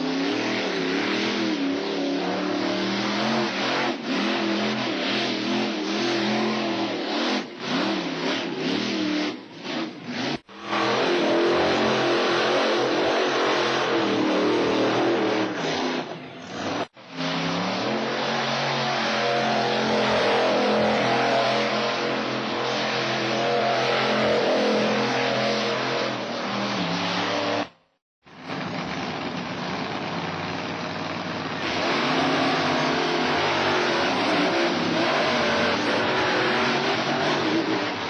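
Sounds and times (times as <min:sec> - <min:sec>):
truck engine revving loudly: 0:00.0 - 0:38.0.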